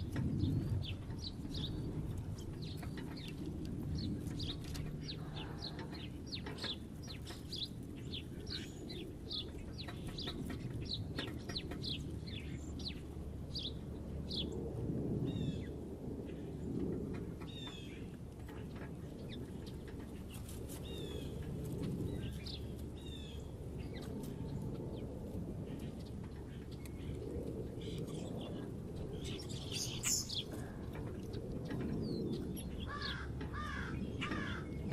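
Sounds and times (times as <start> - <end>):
small songbirds chirping: 0.0 - 34.9.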